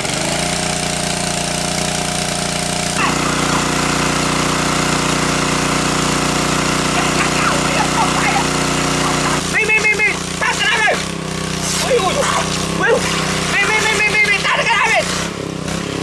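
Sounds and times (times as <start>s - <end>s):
small water pump engine running: 0.0s - 16.0s.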